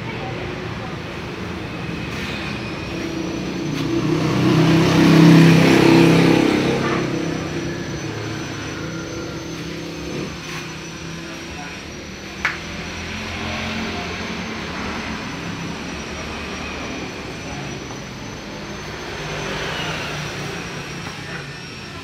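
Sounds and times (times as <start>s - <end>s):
vehicle engine passing by: 0.8s - 22.0s.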